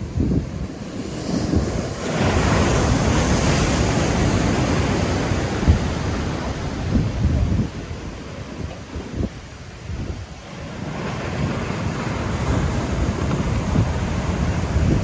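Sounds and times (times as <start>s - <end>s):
wind buffeting microphone: 0.0s - 15.0s
ocean waves breaking into surf: 0.5s - 15.0s.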